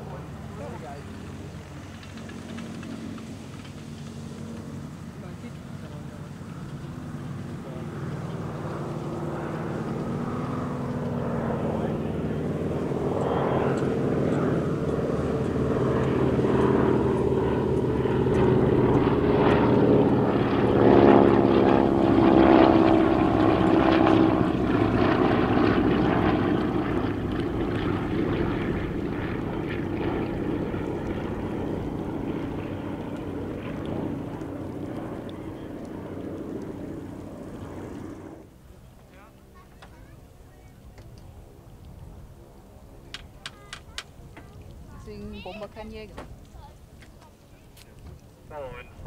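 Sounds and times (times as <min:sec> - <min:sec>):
propeller aircraft flying past: 0:00.0 - 0:49.0.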